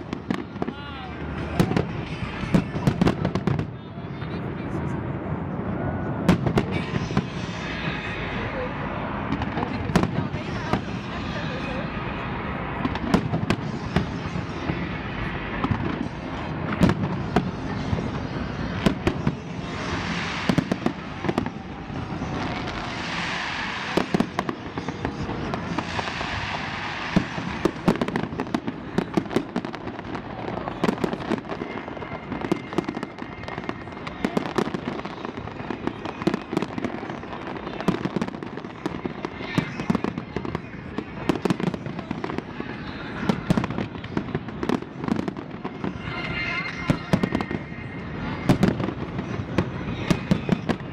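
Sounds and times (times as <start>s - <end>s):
fireworks bangs and pops: 0.0s - 4.4s, 6.3s - 8.3s, 9.2s - 11.8s, 12.8s - 50.9s
fireworks crackling hiss: 6.3s - 50.9s.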